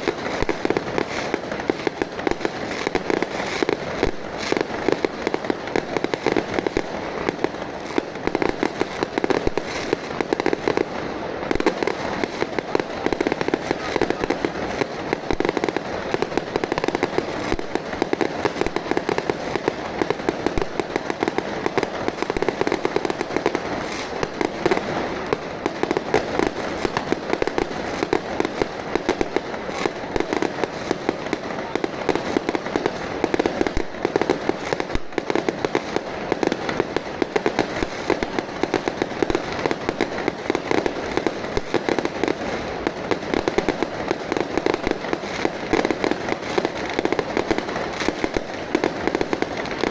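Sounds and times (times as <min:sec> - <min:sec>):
firecrackers popping: 0:00.0 - 0:49.9.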